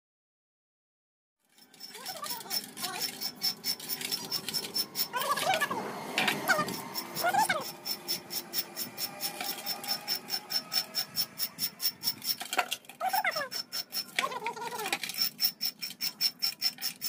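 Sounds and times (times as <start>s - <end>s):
scraping metal spring: 1.4s - 17.0s
high wavering cries: 1.6s - 17.0s.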